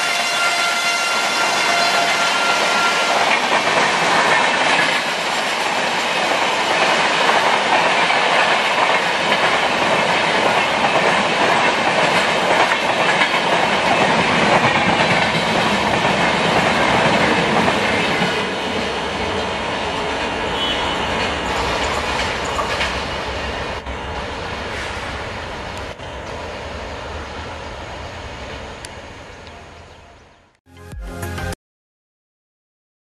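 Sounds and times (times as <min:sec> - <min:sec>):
train wheel and rail noise: 0:00.0 - 0:30.6.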